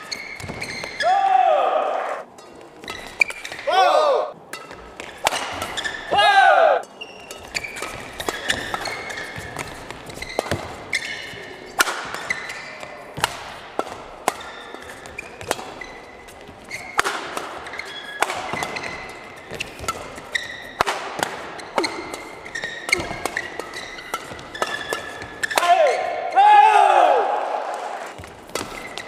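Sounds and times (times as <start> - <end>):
shoes squeaking on court: 0.0 - 1.1, 2.3 - 3.7, 4.5 - 6.1, 6.8 - 26.3, 28.1 - 29.0
racket hitting shuttlecock: 2.3 - 26.4, 28.1 - 29.0.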